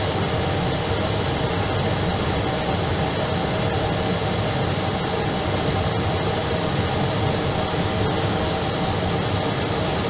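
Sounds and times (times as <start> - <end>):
airliner cabin drone in flight: 0.0 - 10.0.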